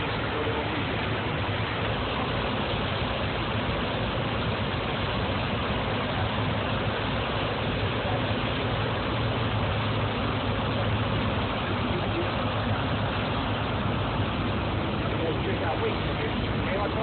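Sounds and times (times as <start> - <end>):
powerboat engine drone: 0.0 - 17.0
rushing wake water: 0.0 - 17.0
wind: 0.0 - 17.0.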